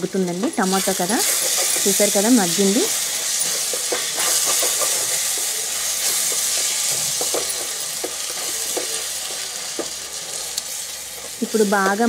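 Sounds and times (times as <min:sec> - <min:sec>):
onion and tomato sizzling in oil: 0:00.0 - 0:12.0
spatula scraping pan: 0:00.5 - 0:10.4.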